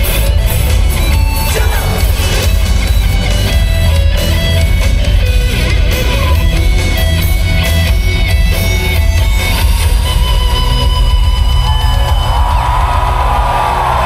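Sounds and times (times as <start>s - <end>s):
heavy bass: 0.0s - 14.0s
strummed electric guitar: 0.0s - 14.0s.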